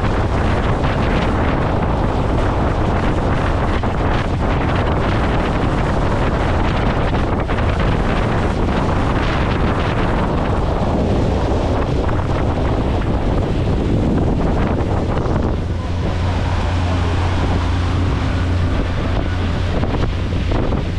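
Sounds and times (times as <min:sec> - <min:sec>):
motorboat low rumble: 0:00.0 - 0:20.9
wind noise on microphone: 0:00.0 - 0:20.9.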